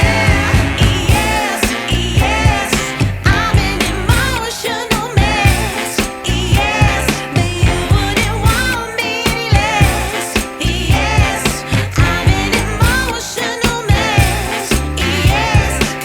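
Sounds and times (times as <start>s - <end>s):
drum beat: 0.0s - 16.0s
person singing: 0.0s - 16.0s.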